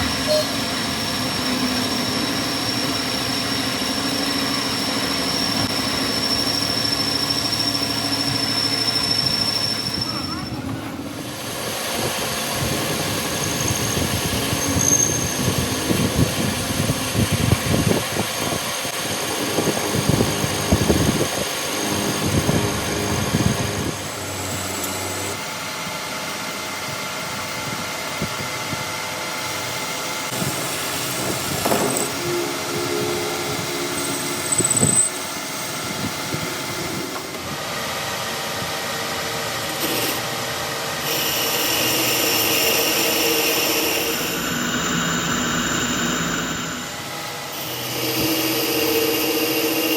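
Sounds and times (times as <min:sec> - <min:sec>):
workshop machinery running: 0:00.0 - 0:49.9.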